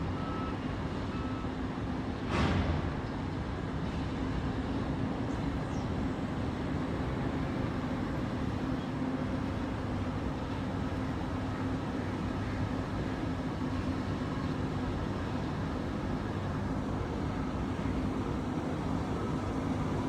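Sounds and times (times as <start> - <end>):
heavy machinery engine rumbling: 2.0 - 20.0.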